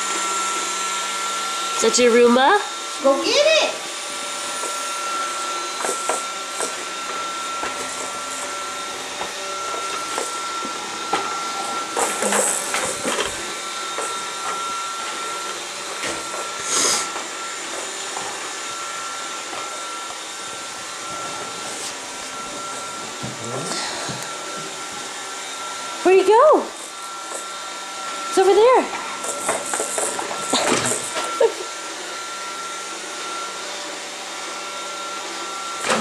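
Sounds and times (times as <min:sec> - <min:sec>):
robot vacuum whirring: 0:00.0 - 0:36.0.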